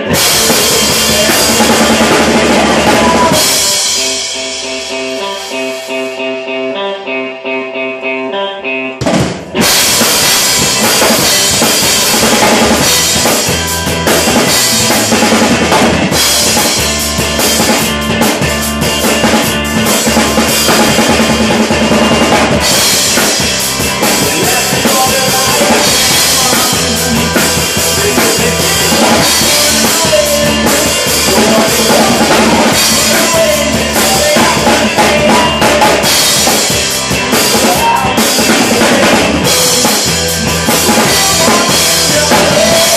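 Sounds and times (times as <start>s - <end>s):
drum kit played hard: 0.0s - 6.6s, 9.0s - 42.9s
rock band music: 0.0s - 42.9s.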